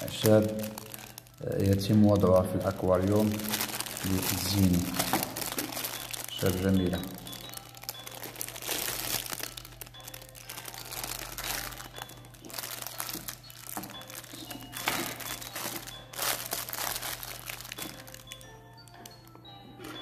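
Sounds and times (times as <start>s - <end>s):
plastic bags crinkling: 0.0s - 20.0s.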